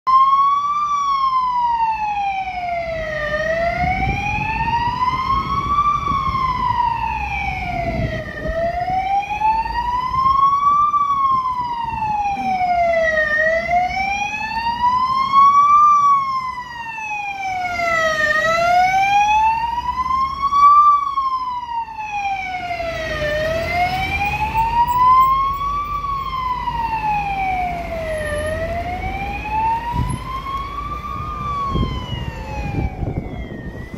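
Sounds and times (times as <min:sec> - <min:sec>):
fire engine siren wailing: 0:00.1 - 0:33.9.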